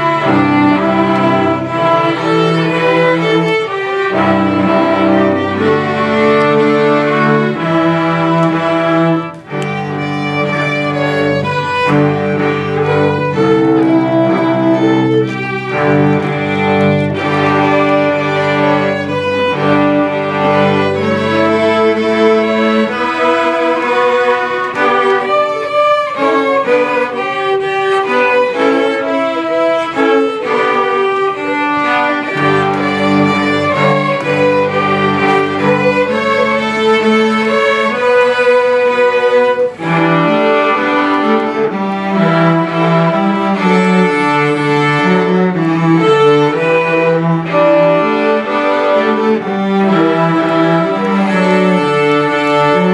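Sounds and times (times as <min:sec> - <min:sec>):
string ensemble playing: 0:00.0 - 0:52.9.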